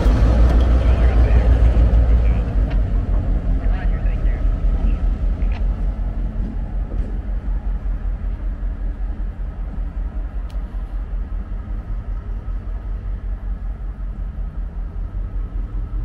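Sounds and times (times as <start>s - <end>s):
diesel locomotive engine throbbing: 0.0s - 16.0s.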